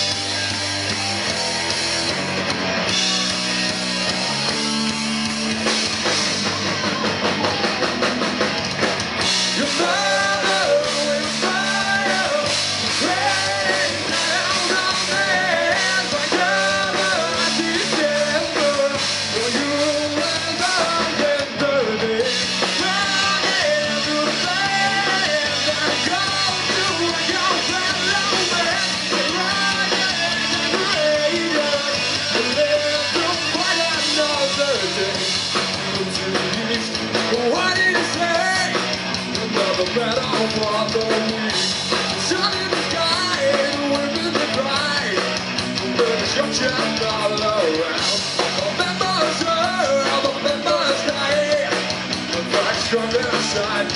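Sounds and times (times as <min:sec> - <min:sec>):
rock band playing live: 0:00.0 - 0:53.9.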